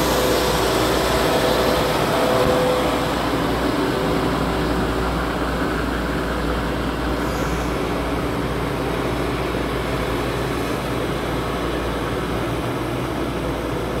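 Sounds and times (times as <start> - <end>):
tractor engines droning: 0.0 - 14.0.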